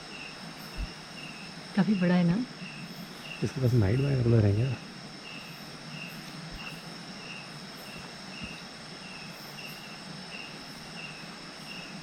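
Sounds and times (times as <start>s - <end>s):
high-pitched insect trill: 0.0s - 12.0s
insect chirping: 0.0s - 12.0s.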